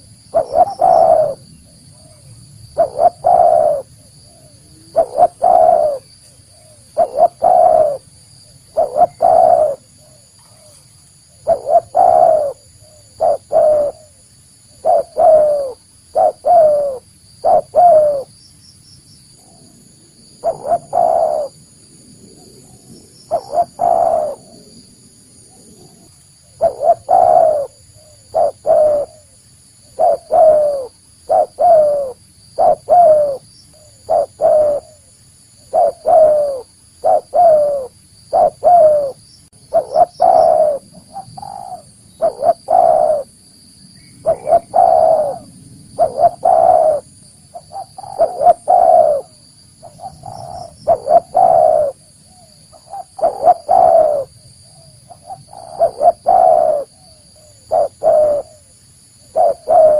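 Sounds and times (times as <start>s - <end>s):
dove cooing: 0.0s - 18.3s, 20.3s - 21.7s, 22.3s - 24.8s, 25.4s - 43.4s, 44.2s - 59.9s.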